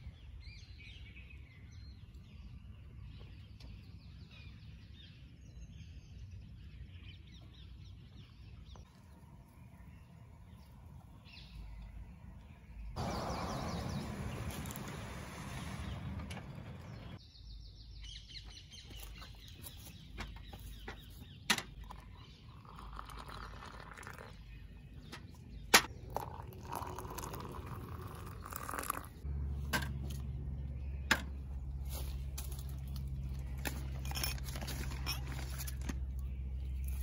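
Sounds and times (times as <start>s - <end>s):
outdoor background: 0.0s - 37.0s.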